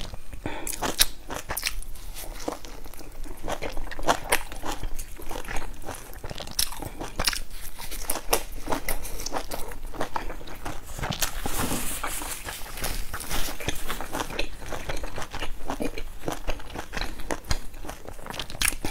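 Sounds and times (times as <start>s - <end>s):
biting and chewing bun: 0.0s - 18.9s.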